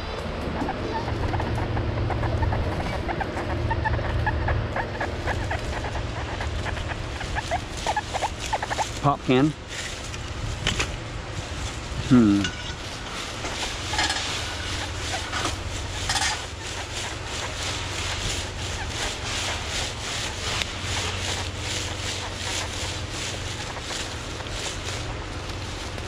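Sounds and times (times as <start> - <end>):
leaves rustling and crackling: 0.0 - 26.0
low steady rumble: 0.0 - 26.0.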